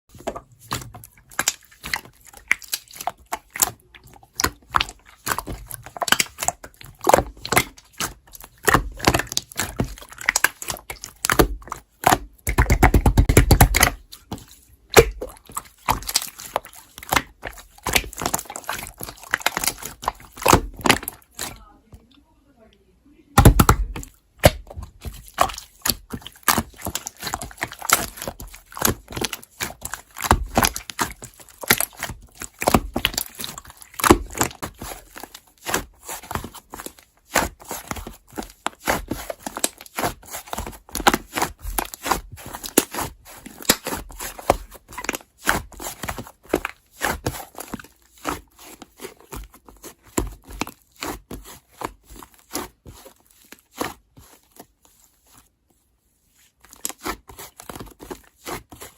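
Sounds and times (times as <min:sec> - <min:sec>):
slime popping and crackling: 0:00.2 - 0:21.8, 0:23.4 - 0:54.5.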